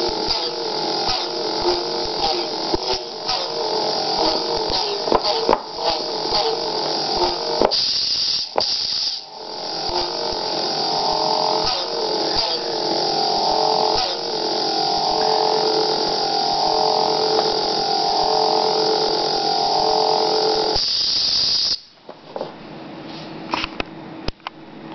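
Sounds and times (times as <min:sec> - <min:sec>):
warbling electronic tones: 0:00.0 - 0:08.0, 0:08.7 - 0:20.8.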